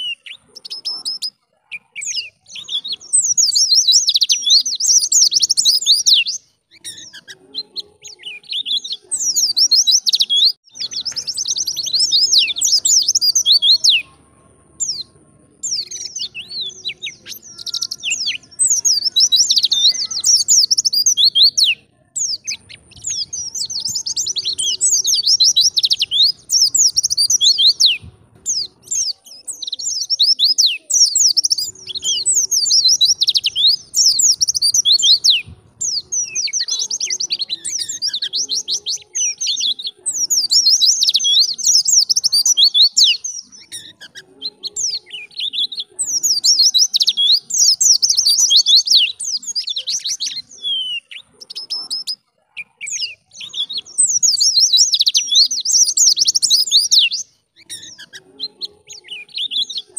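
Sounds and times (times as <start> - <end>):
bird twittering chirps: 0.0 - 59.9.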